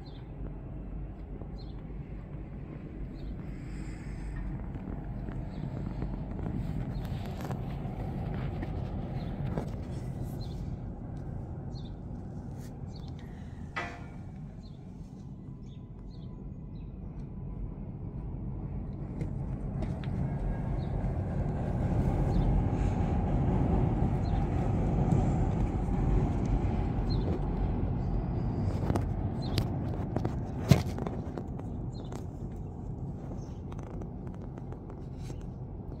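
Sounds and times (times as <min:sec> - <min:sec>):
low traffic rumble: 0:00.0 - 0:36.0.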